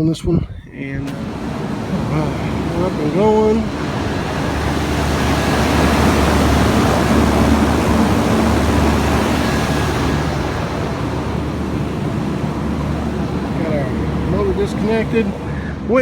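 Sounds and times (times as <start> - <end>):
air conditioner fan rushing: 0.6 - 16.0.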